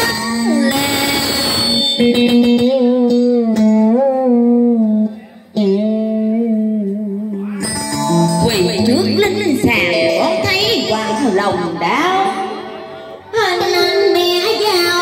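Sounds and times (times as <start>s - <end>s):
plucked string accompaniment: 0.0s - 15.0s
woman singing into a microphone: 0.0s - 15.0s.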